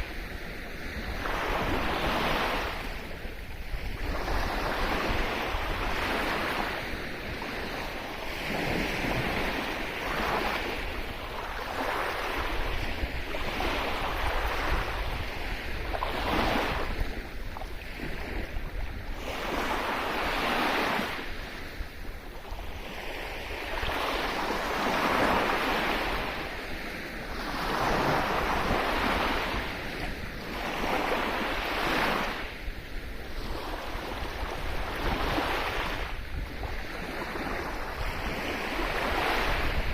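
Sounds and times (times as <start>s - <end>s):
low wind rumble on microphone: 0.0s - 39.9s
sea waves breaking on beach: 0.0s - 39.9s.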